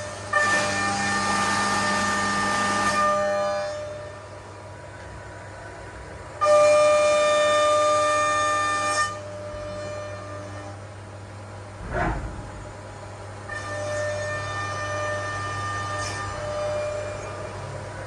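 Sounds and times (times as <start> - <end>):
milling cutter whine: 0.0 - 4.6, 6.4 - 18.0.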